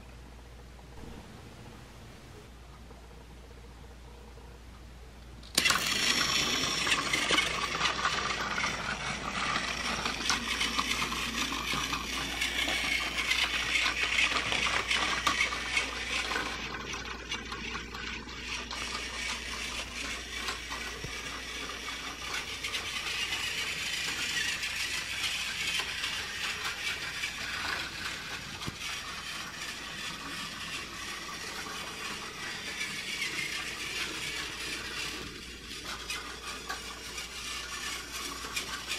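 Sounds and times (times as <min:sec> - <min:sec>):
toy cargo rattling: 0:05.4 - 0:38.9
toy train motor and wheels clattering: 0:05.4 - 0:38.9.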